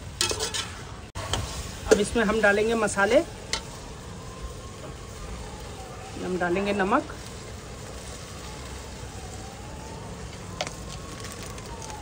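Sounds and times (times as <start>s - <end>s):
food sizzling in oil: 0.0s - 12.0s
faint siren wailing: 1.9s - 12.0s.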